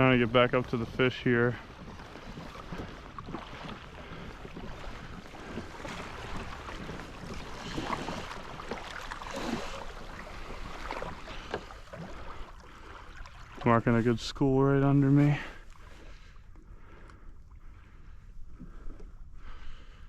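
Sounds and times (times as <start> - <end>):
water splashing against kayak hull: 0.0 - 20.0.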